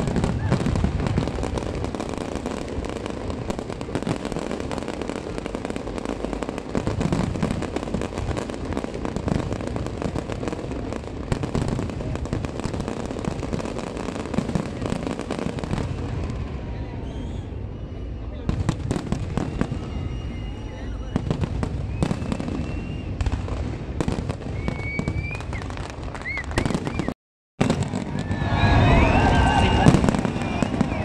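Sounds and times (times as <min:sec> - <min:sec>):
fireworks booming: 0:00.0 - 0:31.0
fireworks crackling: 0:00.0 - 0:31.0.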